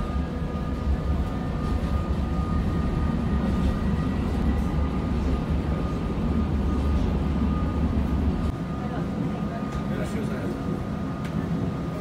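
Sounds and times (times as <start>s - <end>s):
faint high whine: 0.0s - 12.0s
train rumble: 0.0s - 12.0s.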